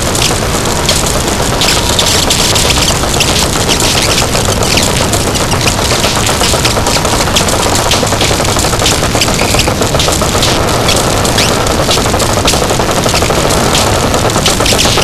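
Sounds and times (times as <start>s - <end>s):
harsh distorted noise music: 0.0s - 15.0s
rapid crackling clicks: 0.0s - 15.0s.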